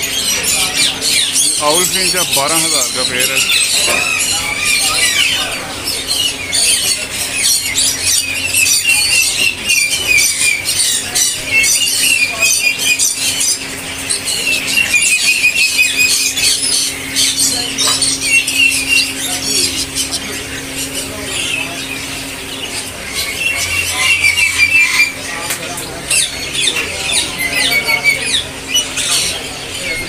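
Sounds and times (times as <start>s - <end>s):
finches chirping and twittering: 0.0s - 30.0s
steady low hum: 0.0s - 30.0s.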